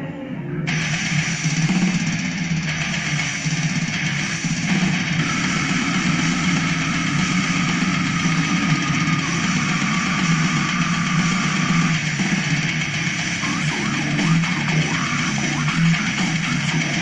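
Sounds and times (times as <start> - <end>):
heavy metal music on speakers: 0.6 - 17.0.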